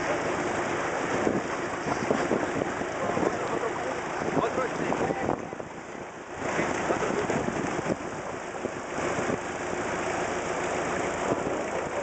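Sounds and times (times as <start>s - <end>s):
boat motor running: 0.0s - 12.0s
surf breaking: 0.0s - 12.0s.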